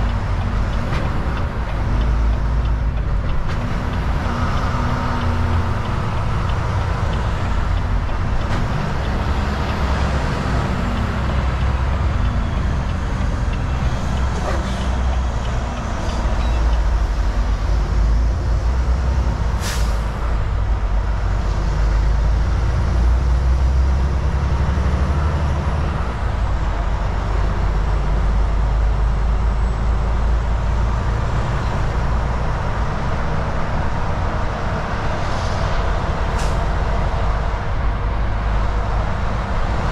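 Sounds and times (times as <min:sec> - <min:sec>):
road and tyre noise: 0:00.0 - 0:39.9
truck diesel engine drone: 0:00.0 - 0:39.9.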